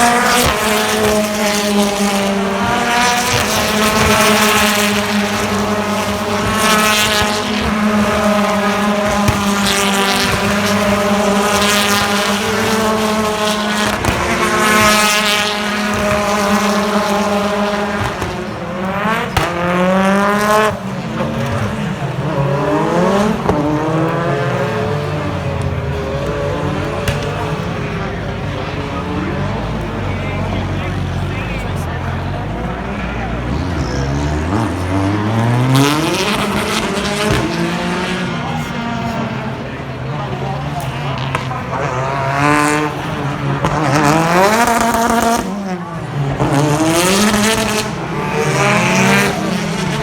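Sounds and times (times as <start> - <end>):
racing car engine revving: 0.0 - 50.0.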